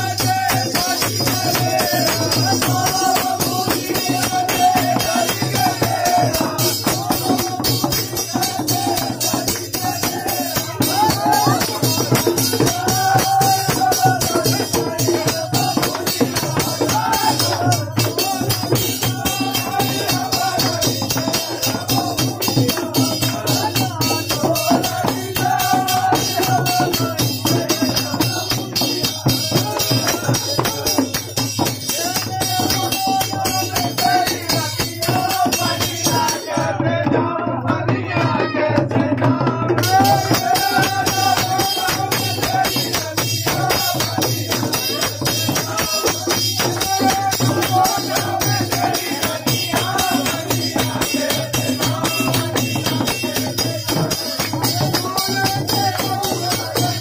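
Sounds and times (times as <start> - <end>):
folk song singing: 0.0 - 57.0
hand drum beating: 0.0 - 57.0
jingling percussion: 0.0 - 57.0.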